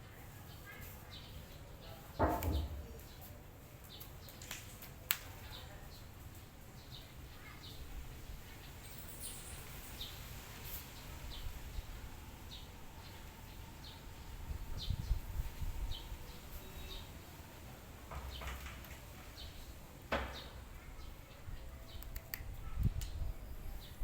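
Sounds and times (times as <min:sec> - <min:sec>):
small birds chirping: 0:00.2 - 0:24.0.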